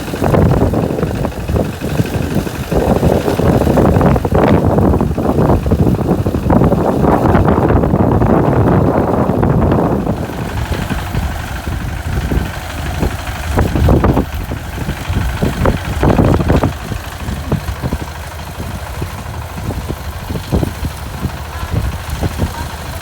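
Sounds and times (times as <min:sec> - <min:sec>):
harvester engine running: 0:00.0 - 0:23.0
knocks and rattles: 0:00.0 - 0:23.0.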